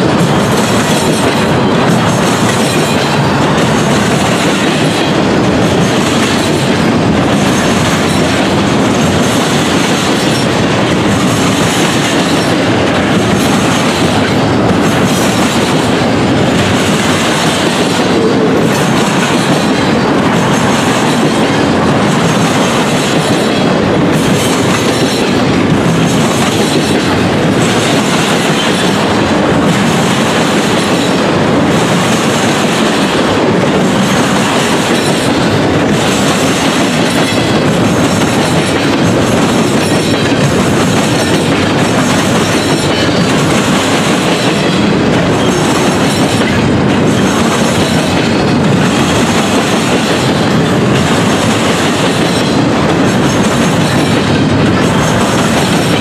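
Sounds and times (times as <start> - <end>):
rhythmic clickety-clack: 0.0 - 56.0
train wheels rumbling on rails: 0.0 - 56.0.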